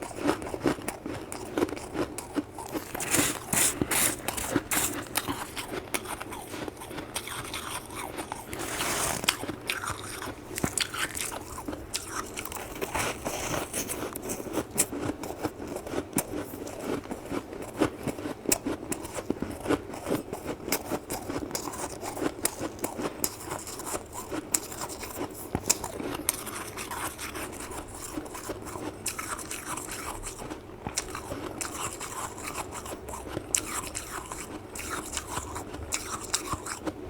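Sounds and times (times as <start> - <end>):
chewing crunchy frost: 0.0 - 37.0.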